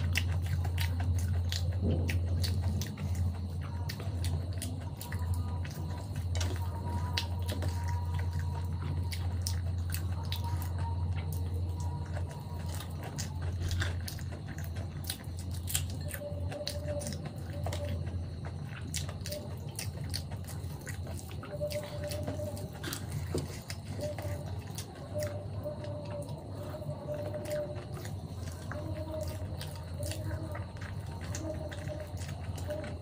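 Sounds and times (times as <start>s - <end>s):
chewing with mouth smacks: 0.0s - 33.0s
food squishing between fingers: 0.0s - 33.0s
steady low hum: 0.0s - 33.0s.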